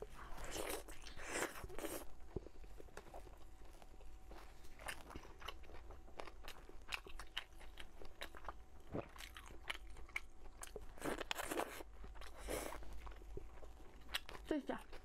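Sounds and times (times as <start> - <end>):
close chewing: 0.0 - 15.0.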